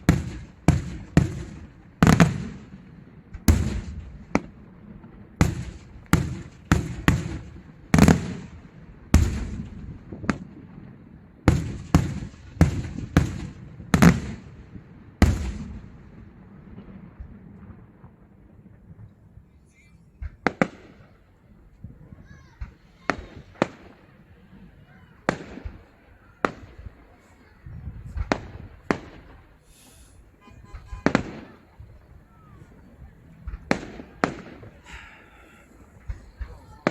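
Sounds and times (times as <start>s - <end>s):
fireworks exploding with echo: 0.0s - 36.9s.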